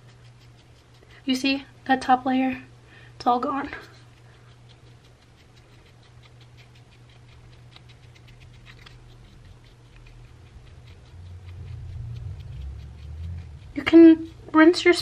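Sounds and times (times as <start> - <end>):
spatula scraping skin: 0.0 - 1.6, 3.3 - 15.0.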